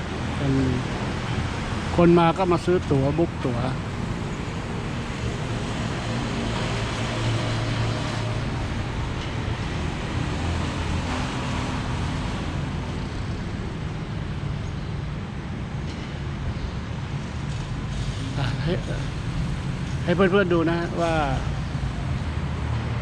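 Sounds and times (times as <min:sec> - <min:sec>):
ambient traffic rumble: 0:00.0 - 0:23.0.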